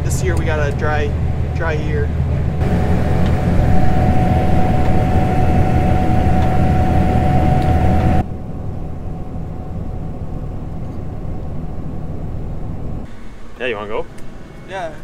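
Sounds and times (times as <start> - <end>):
machinery engine rumbling: 0.0 - 15.0
thin steady whine: 0.0 - 15.0.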